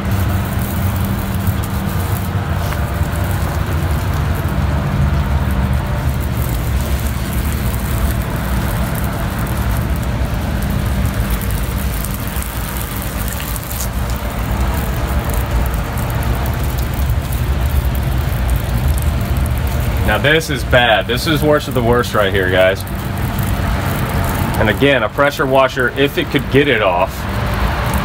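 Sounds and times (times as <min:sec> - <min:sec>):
low mechanical drone: 0:00.0 - 0:28.0.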